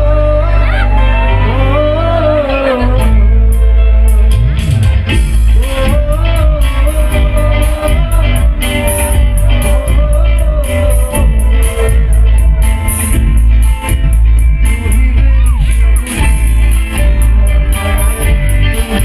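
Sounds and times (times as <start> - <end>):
live band playing: 0.0 - 19.0
man singing into a microphone: 0.0 - 19.0.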